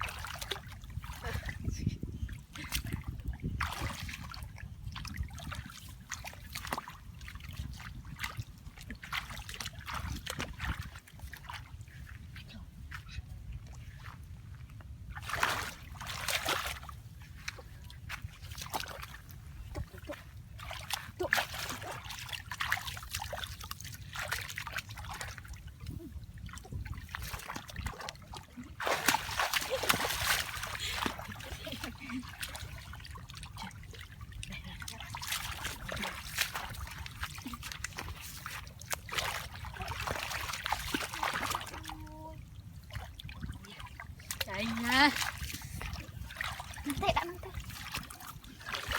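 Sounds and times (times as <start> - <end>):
shallow water splashing: 2.4 - 12.4, 15.1 - 48.9.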